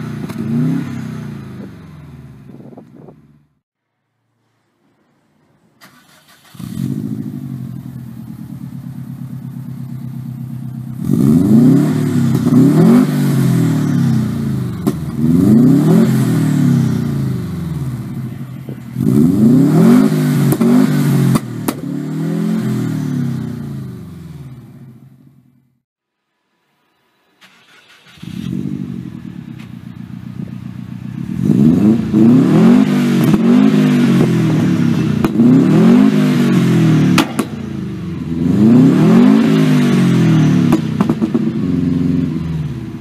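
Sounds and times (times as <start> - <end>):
car engine idling and revving: 0.0 - 3.6, 5.8 - 25.8, 27.4 - 43.0.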